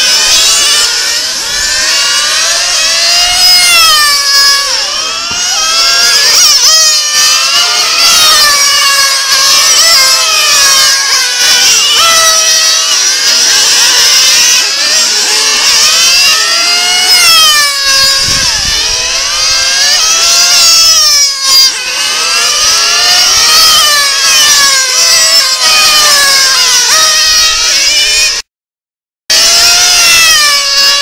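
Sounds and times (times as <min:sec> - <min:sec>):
rc car engines revving: 0:00.0 - 0:28.5, 0:29.3 - 0:31.0.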